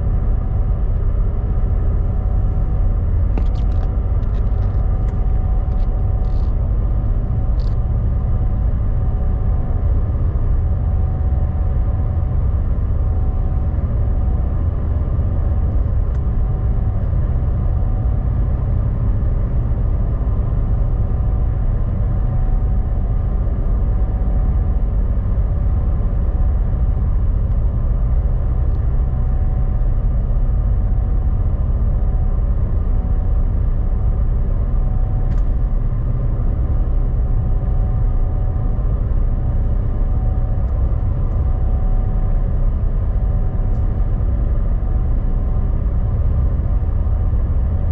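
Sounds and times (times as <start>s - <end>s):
engine rumble: 0.0s - 47.9s
faint steady hum: 0.0s - 47.9s.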